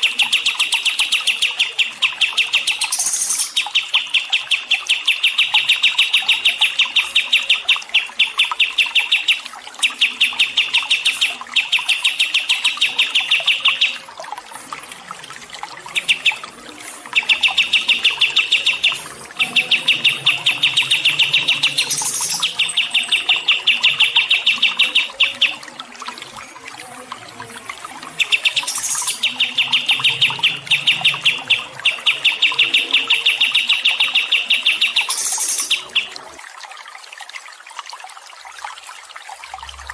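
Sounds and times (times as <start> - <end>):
songbird chirping: 0.0 - 36.4.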